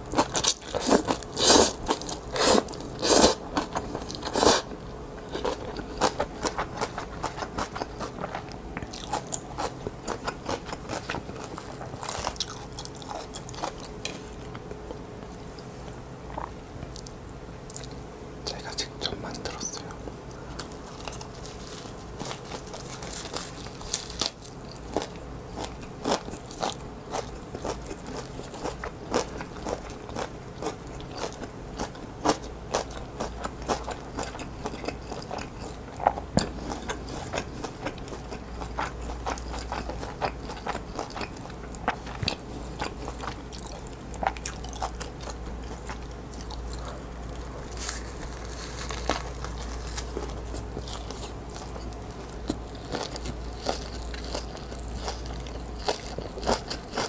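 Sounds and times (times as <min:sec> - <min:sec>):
biting and chewing with crunches: 0:00.0 - 0:15.4, 0:19.5 - 0:57.0.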